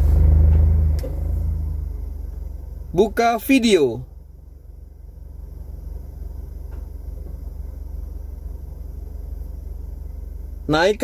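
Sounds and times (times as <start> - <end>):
air conditioning hiss: 0.0 - 11.0
car engine idling: 0.0 - 11.0.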